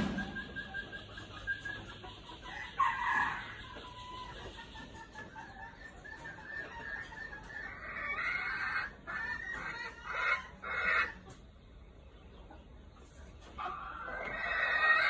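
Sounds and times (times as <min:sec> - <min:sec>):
roosters clucking and calling: 0:00.0 - 0:15.0.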